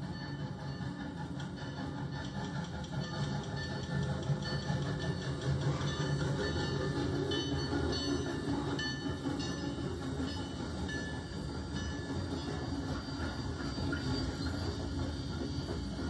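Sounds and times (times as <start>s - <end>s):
steam locomotive working: 0.0s - 16.0s.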